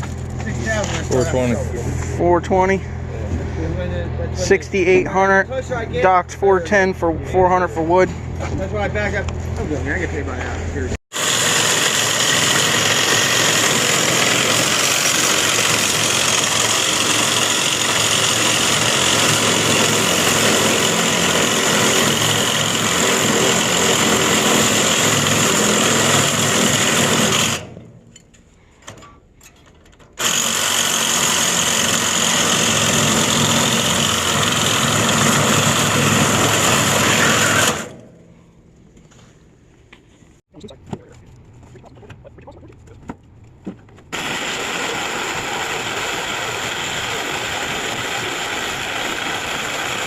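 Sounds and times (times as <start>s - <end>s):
loud machine engine running: 0.0s - 28.0s, 30.2s - 38.6s, 43.7s - 50.0s.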